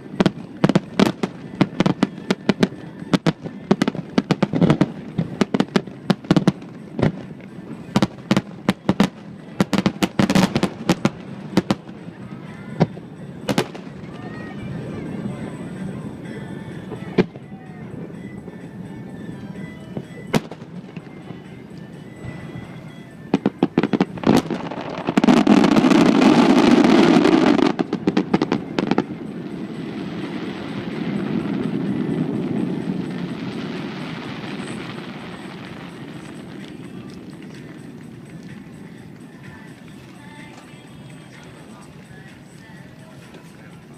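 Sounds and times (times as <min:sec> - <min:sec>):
fireworks bangs: 0:00.0 - 0:40.5
fireworks crackling: 0:00.0 - 0:43.9.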